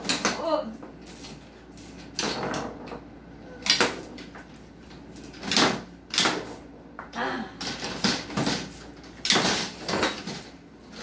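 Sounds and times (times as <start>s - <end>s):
foosball knocks and rattles: 0.0s - 11.0s.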